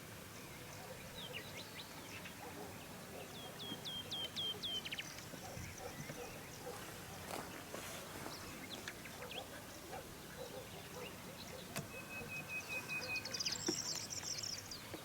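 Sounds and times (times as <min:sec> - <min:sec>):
birds calling: 0:00.6 - 0:15.0.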